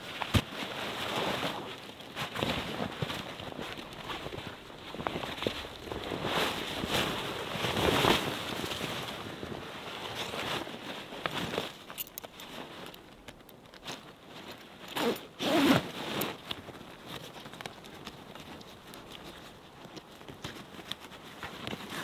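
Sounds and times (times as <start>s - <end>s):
tent fabric rustling: 0.0s - 22.0s.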